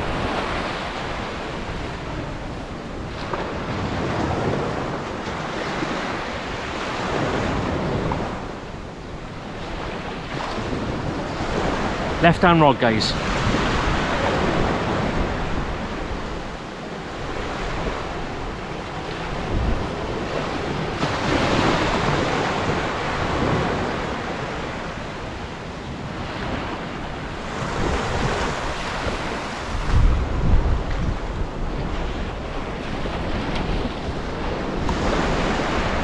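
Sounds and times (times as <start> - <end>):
wind buffeting microphone: 0.0 - 12.2, 12.8 - 36.0
small waves breaking on beach: 0.0 - 36.0.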